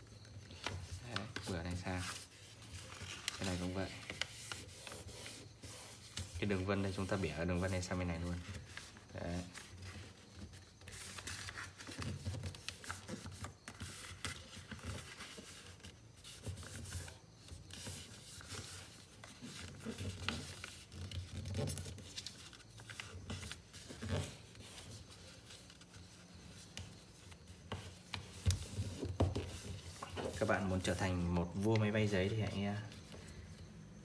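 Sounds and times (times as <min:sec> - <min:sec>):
paper rustling and crinkling: 0:00.1 - 0:33.4.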